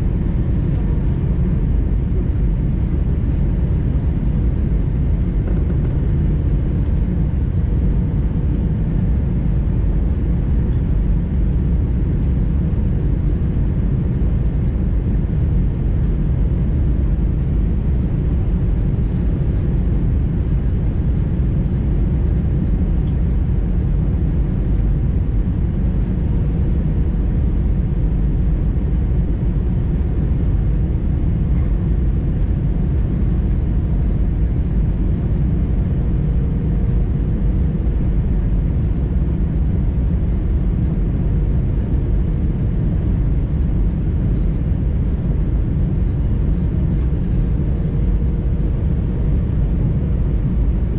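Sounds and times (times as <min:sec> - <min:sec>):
airliner cabin rumble: 0:00.0 - 0:50.9
faint steady hum: 0:00.0 - 0:50.9.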